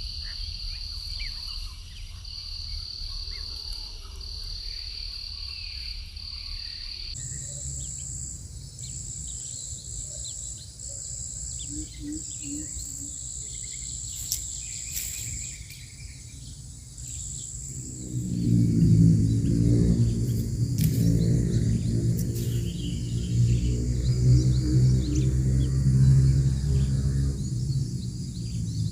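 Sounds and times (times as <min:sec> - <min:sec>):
insects trilling: 0:00.0 - 0:28.9.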